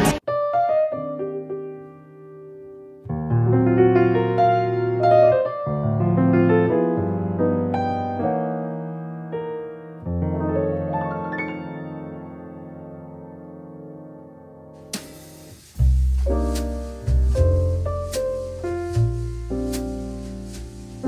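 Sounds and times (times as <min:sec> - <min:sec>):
background piano music: 0:00.2 - 0:21.0.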